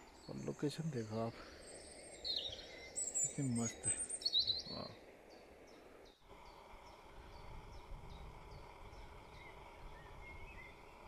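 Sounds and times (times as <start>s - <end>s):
soft low bird chirps: 0.0s - 11.0s.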